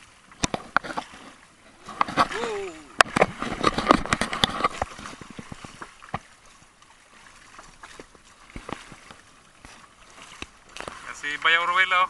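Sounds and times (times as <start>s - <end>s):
knocks and clatter on boat: 0.0s - 12.0s.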